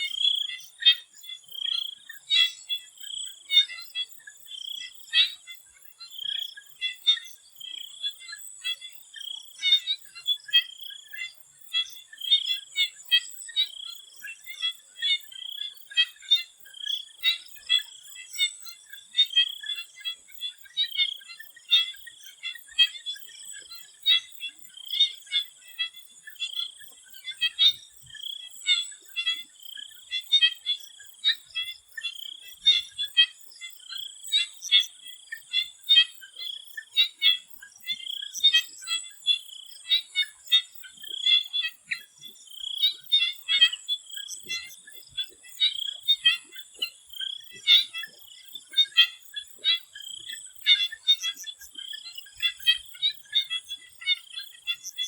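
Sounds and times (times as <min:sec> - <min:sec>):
chorus of frogs: 0:00.0 - 0:55.0.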